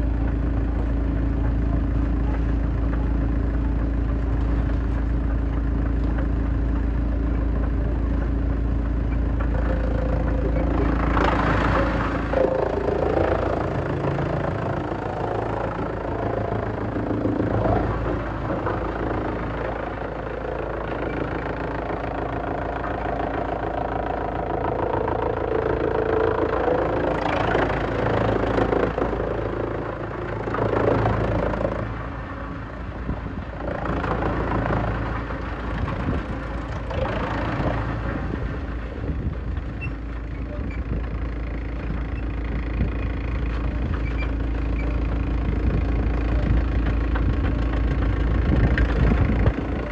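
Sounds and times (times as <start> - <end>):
industrial wood shredder running: 0.0 - 49.9.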